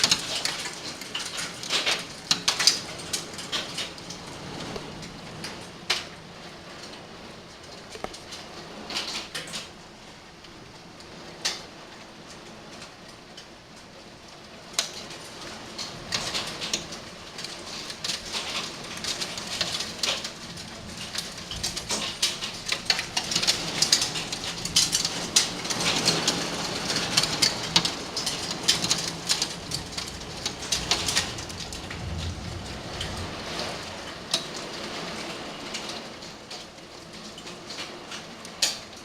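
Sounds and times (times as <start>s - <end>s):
hail and rain on a window: 0.0s - 39.0s.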